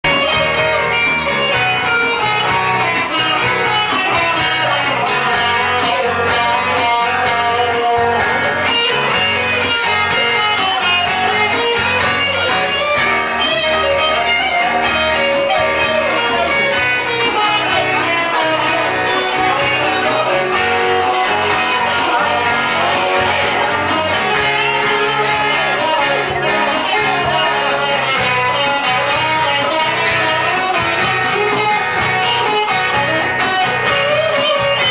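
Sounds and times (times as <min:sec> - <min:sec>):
lead electric guitar: 0:00.0 - 0:34.9
strummed acoustic guitars: 0:00.0 - 0:34.9.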